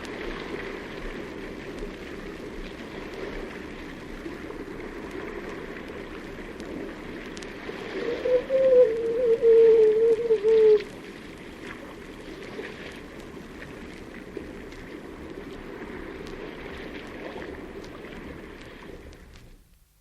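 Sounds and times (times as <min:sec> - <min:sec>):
small clicks and splashes: 0:00.0 - 0:08.0, 0:10.4 - 0:19.9
sea water washing in cave: 0:00.0 - 0:19.6.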